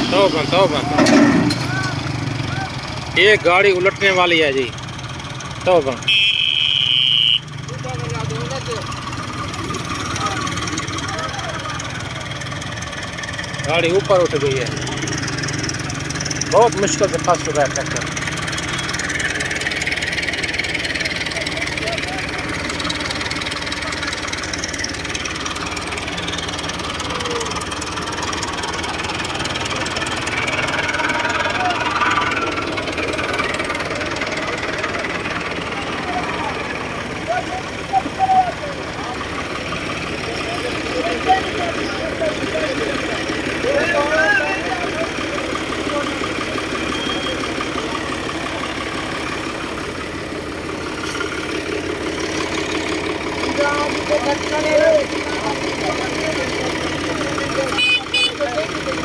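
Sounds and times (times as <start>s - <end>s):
diesel tractor engine clattering: 0.0s - 59.0s.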